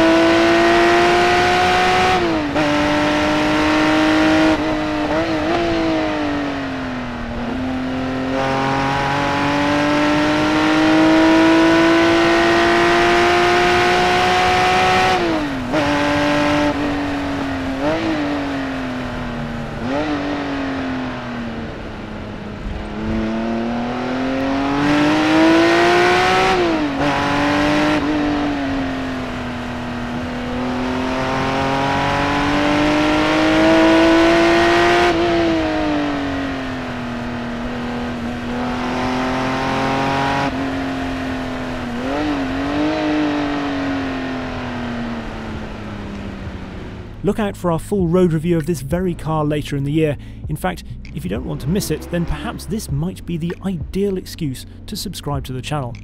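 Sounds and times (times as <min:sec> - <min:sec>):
car engine at full throttle: 0:00.0 - 0:56.0
engine revving blips: 0:00.0 - 0:56.0.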